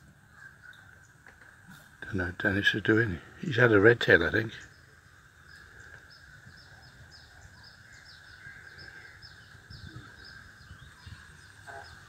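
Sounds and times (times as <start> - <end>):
steady high insect drone: 0.1 - 12.0.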